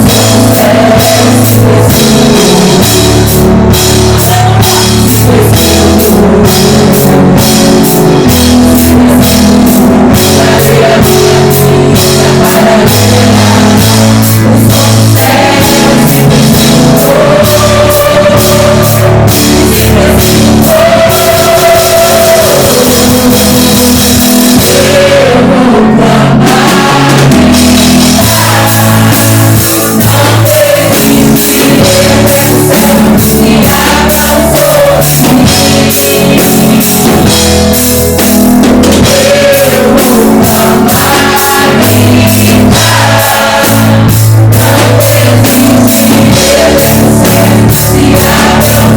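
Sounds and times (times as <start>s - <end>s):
sung melody: 0.0s - 48.9s
worship band playing: 0.0s - 48.9s.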